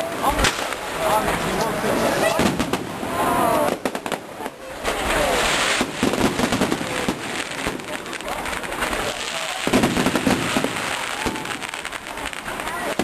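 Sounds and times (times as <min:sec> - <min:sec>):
crowd voices: 0:00.0 - 0:13.0
fireworks crackling and popping: 0:00.0 - 0:13.0.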